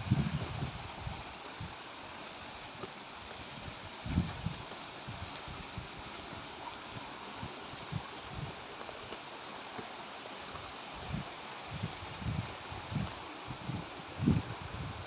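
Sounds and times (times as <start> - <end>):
river cascades rushing: 0.0 - 15.0.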